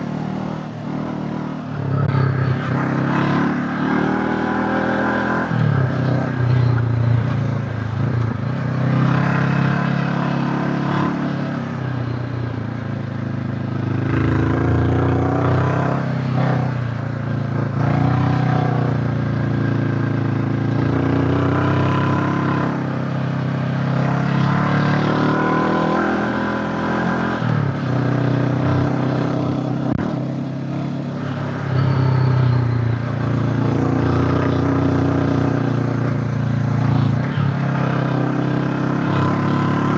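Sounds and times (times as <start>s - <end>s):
motorcycle engine revving while riding: 0.0s - 39.9s.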